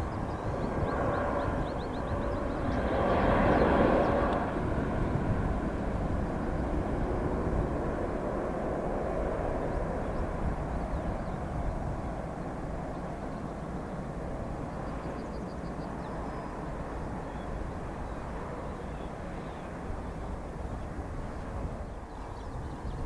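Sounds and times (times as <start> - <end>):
jet airliner passing by: 0.0 - 23.0.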